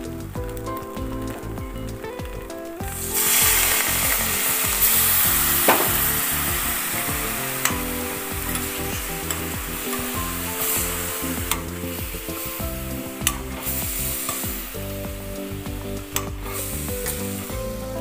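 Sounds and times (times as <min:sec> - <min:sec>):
milk sizzling in hot pan: 0:00.0 - 0:18.0.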